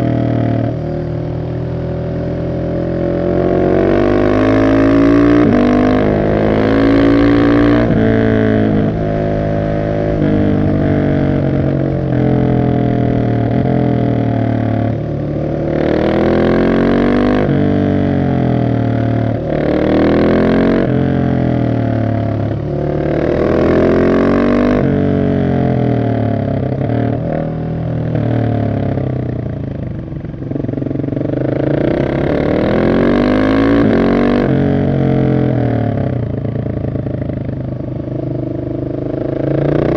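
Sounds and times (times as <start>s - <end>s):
motorcycle engine accelerating and shifting: 0.0s - 39.9s.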